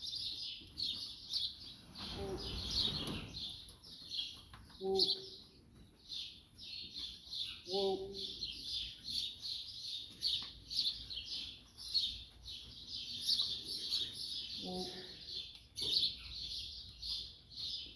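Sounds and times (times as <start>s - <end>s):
small birds chirping chorus: 0.0s - 17.9s.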